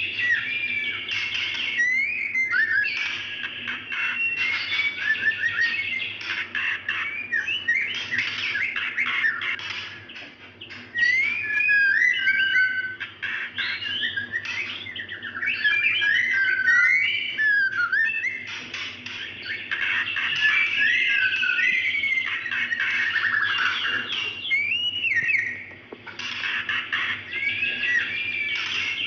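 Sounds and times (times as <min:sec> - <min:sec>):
bird whistling and chirping: 0:00.0 - 0:29.0.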